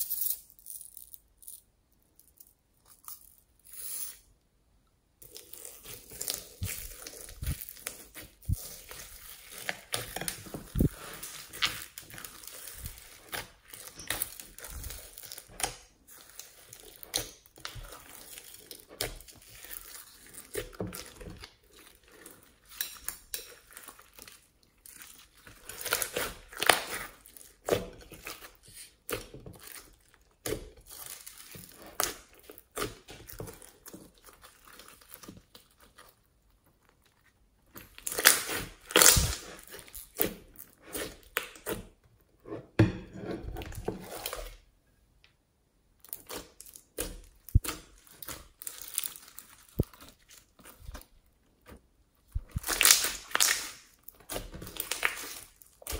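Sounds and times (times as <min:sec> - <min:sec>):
beads crackling and popping: 0:00.0 - 0:04.3, 0:05.2 - 0:36.1, 0:37.7 - 0:41.6, 0:46.0 - 0:51.2, 0:52.3 - 0:55.9
slime squelching: 0:05.2 - 0:44.7, 0:46.0 - 0:55.9.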